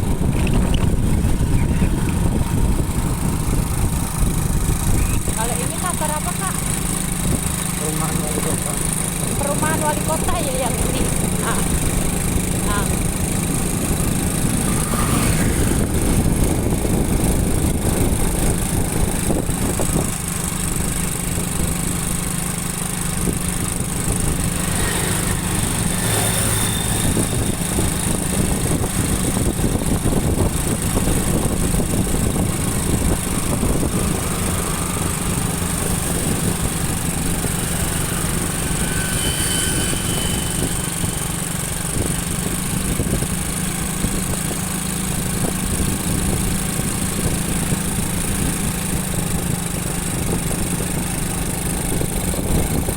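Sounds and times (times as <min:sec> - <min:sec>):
wind noise: 0:00.0 - 0:07.8, 0:09.0 - 0:22.3, 0:23.1 - 0:52.9
motorcycle engine running: 0:00.0 - 0:52.9
road noise: 0:00.0 - 0:52.9.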